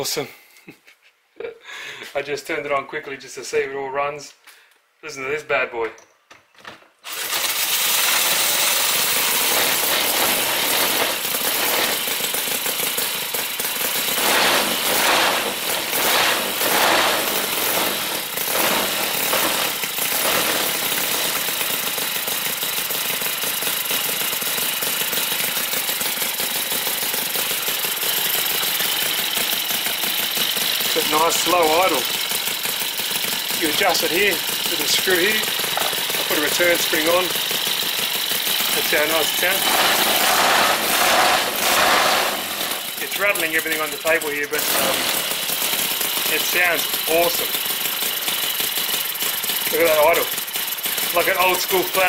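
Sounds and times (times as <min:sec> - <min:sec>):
model engine running fast: 0:07.1 - 0:52.0.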